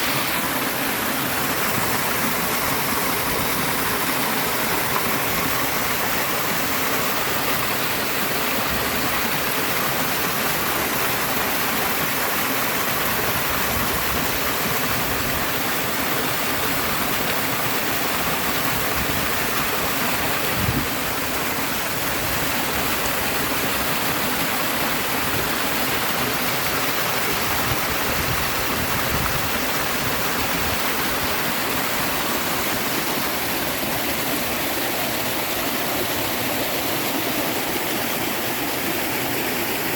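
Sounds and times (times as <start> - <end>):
river and waterfall roaring: 0.0 - 39.9.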